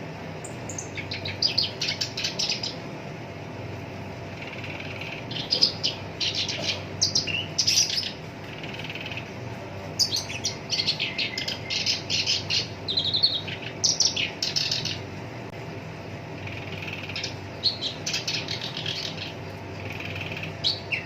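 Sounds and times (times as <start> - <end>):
bird chattering song: 0.4 - 2.9, 4.3 - 15.1, 16.3 - 21.0.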